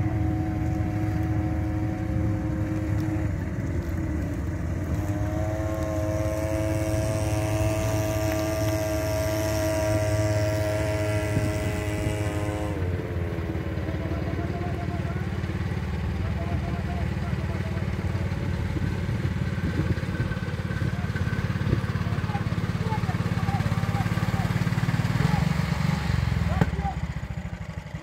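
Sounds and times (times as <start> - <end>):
outboard motor running: 0.0 - 28.0
vehicle engine running: 0.0 - 28.0.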